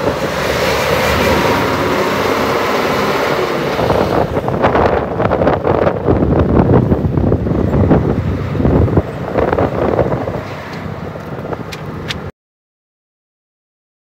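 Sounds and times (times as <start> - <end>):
moving bus running: 0.0 - 12.3
wind buffeting microphone: 0.0 - 12.3.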